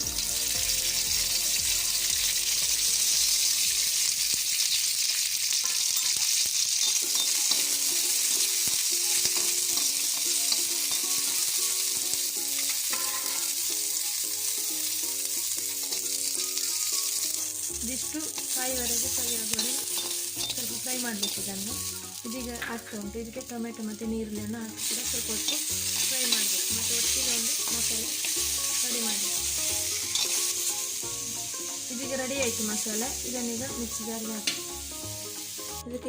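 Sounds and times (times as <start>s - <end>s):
spices sizzling in oil: 0.0s - 36.0s.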